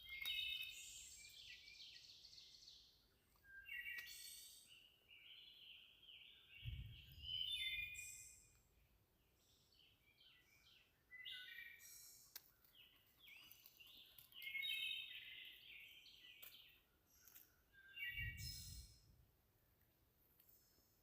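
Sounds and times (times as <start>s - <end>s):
wild birds chirping: 0.0s - 19.2s.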